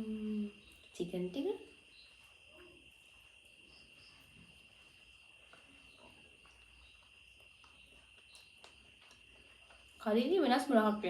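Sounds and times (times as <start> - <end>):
high-pitched cricket trill: 0.0 - 11.0.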